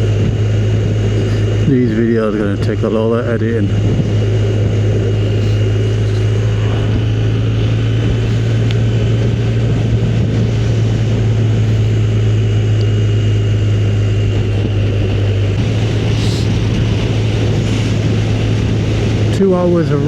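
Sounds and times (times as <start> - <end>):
motorcycle engine cruising: 0.0 - 20.0
road noise under tires: 0.0 - 20.0
wind: 0.0 - 20.0.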